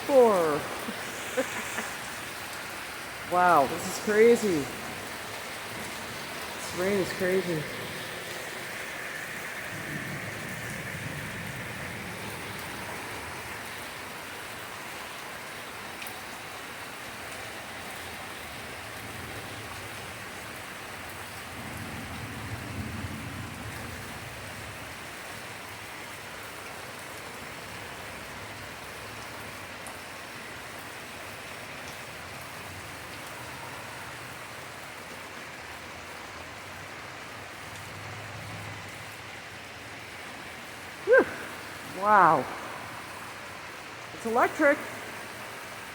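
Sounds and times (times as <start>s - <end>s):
heavy rain downpour: 0.0s - 45.9s.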